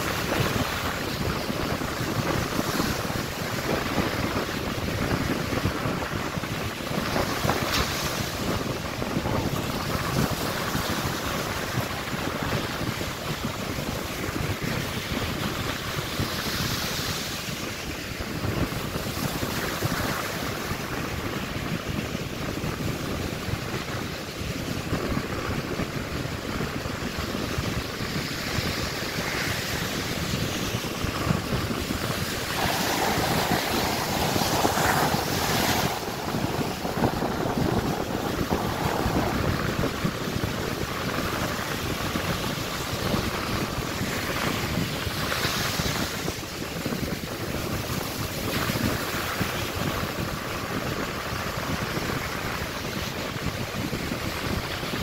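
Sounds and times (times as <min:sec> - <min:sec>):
surf breaking on beach: 0:00.0 - 0:55.0
wind buffeting microphone: 0:00.0 - 0:55.0.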